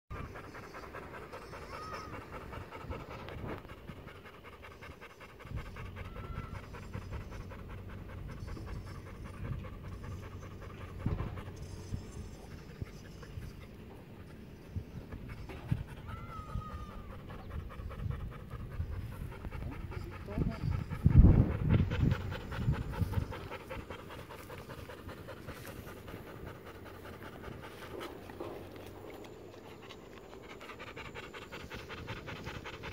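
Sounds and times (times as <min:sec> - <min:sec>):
dog panting: 0:00.1 - 0:32.9.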